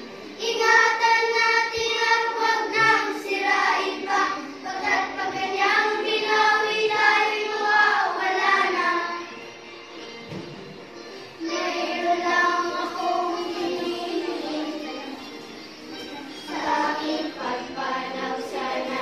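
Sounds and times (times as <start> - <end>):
voices singing slow melody: 0.0 - 19.0.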